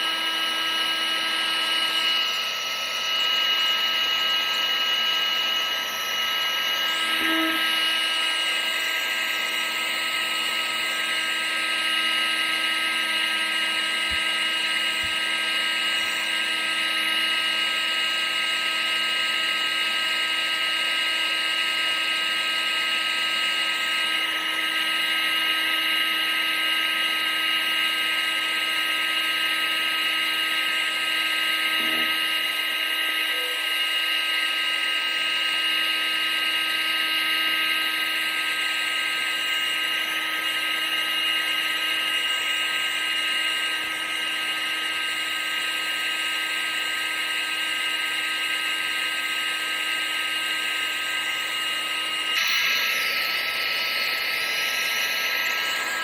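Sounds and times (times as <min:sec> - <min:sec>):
appliance motor and fan whine: 0:00.0 - 0:56.0.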